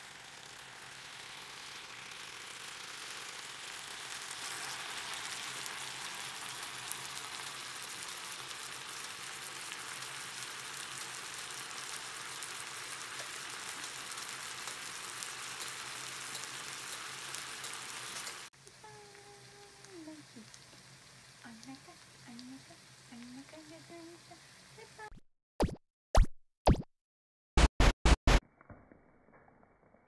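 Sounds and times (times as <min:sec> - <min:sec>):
food sizzling on a hot plate: 0:00.0 - 0:25.1.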